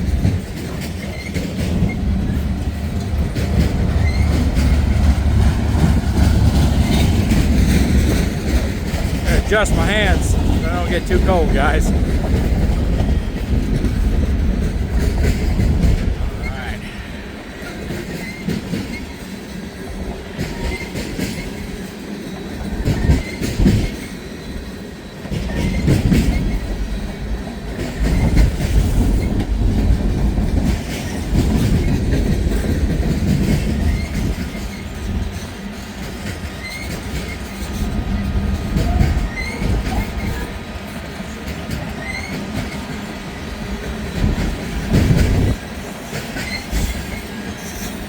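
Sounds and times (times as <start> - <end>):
train wheels clattering over rail joints: 0.0 - 9.3, 11.9 - 16.2, 17.0 - 48.0.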